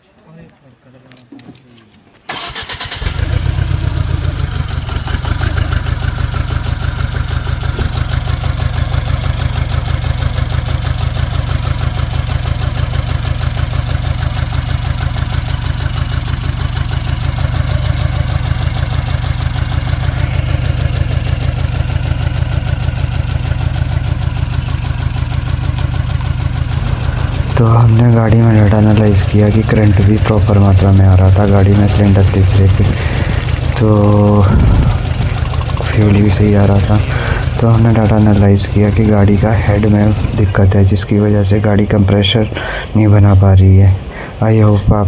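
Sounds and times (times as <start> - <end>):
car engine starting and idling: 1.8 - 45.0.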